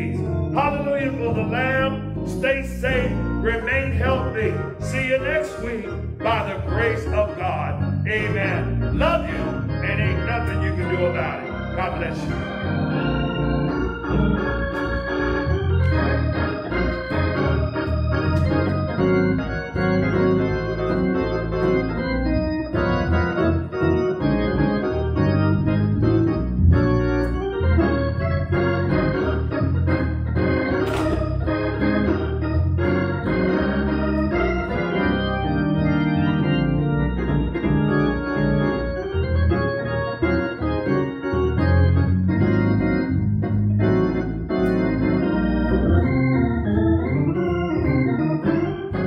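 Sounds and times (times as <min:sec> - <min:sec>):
low organ bass line: 0:00.0 - 0:49.0
organ chords: 0:00.0 - 0:49.0.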